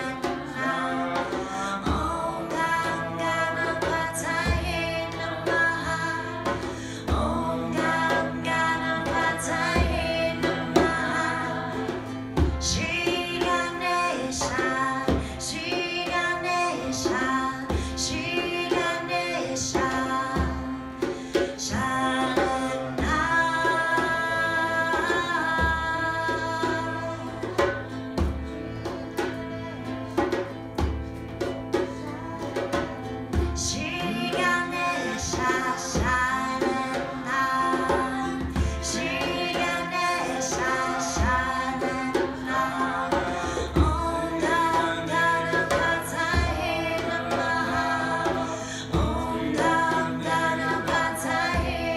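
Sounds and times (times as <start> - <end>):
woman singing: 0.0 - 30.3, 31.8 - 51.9
frame drum beats: 0.0 - 51.9
harmonium drone: 0.0 - 51.9.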